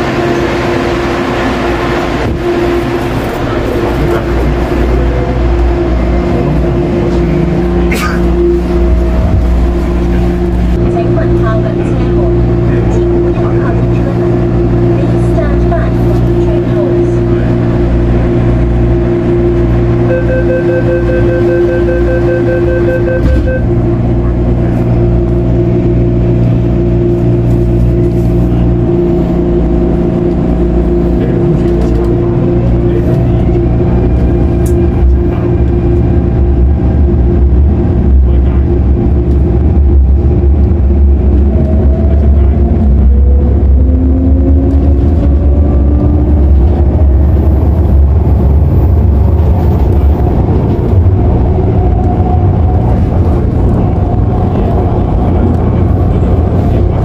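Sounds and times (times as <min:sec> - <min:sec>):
constant hum: 0:00.0 - 0:57.0
train cabin rumble: 0:00.0 - 0:57.0.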